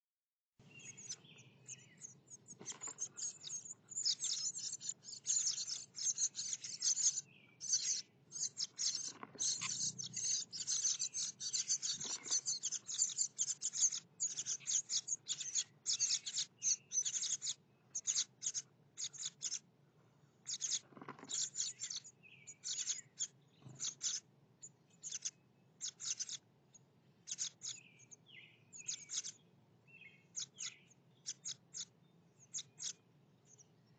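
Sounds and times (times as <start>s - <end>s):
nestlings chirping: 0.6s - 19.8s, 20.4s - 33.9s.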